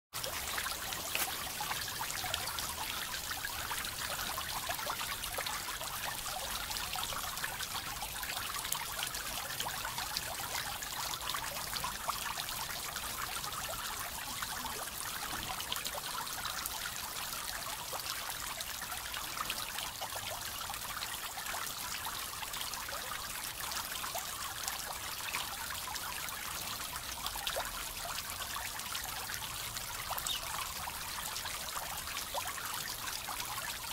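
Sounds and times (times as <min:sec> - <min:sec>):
fountain water splashing: 0:00.2 - 0:33.9.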